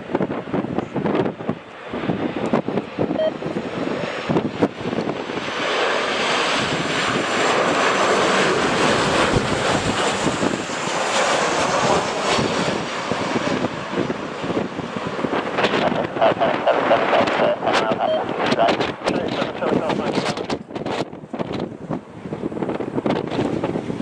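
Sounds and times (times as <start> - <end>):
airliner engines rushing: 0.0 - 24.0
wind buffeting microphone: 0.0 - 24.0.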